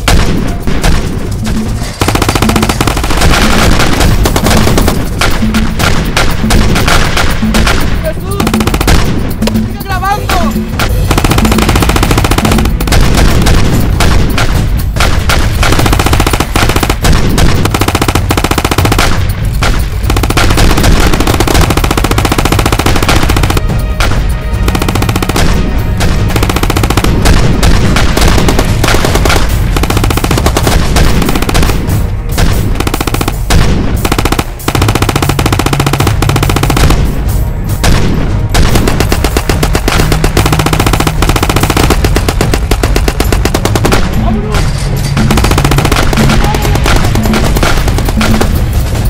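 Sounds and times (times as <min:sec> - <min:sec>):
rapid automatic rifle fire: 0:00.0 - 0:37.2, 0:37.8 - 0:49.0
background music: 0:00.0 - 0:49.0.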